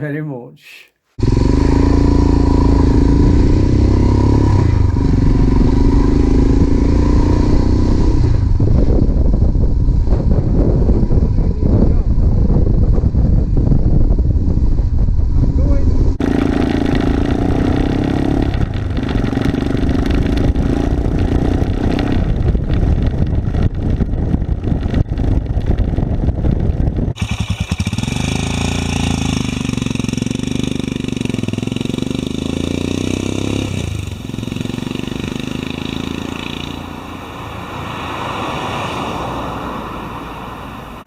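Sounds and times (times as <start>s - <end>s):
motorcycle engine running hard: 1.2s - 37.4s.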